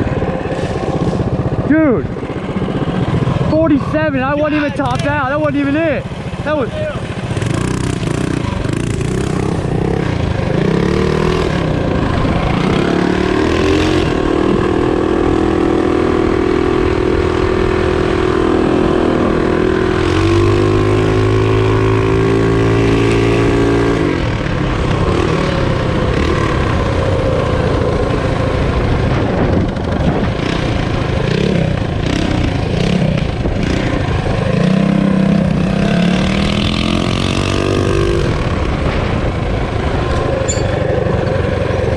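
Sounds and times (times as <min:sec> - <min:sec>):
minibike engine running: 0:00.0 - 0:41.9.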